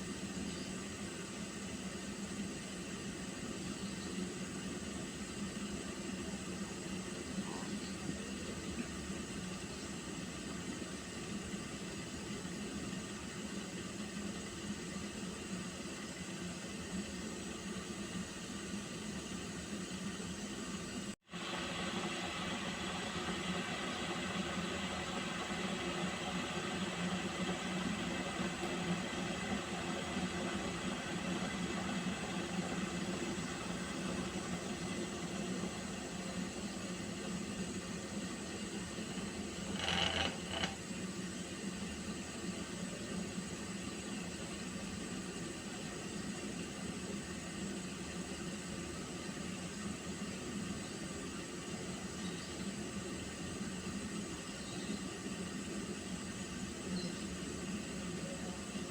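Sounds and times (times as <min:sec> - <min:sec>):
water heating hiss: 0:00.0 - 0:58.9.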